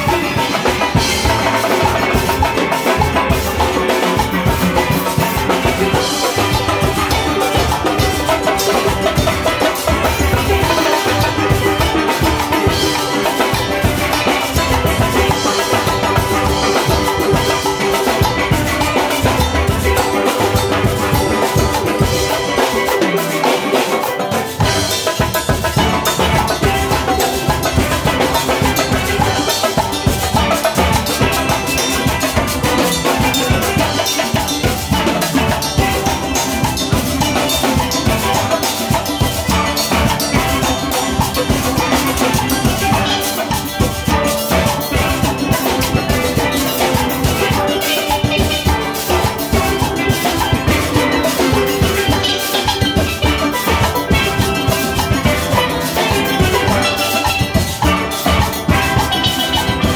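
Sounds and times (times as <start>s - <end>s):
drum kit steady beat: 0.0s - 59.9s
steel pans playing tune: 0.0s - 59.9s.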